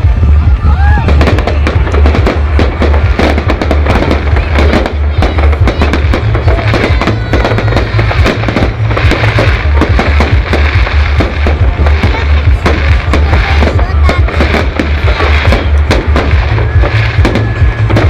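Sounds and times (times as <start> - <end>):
fireworks bursting and crackling: 0.0 - 18.0
loud music with heavy bass: 0.0 - 18.0.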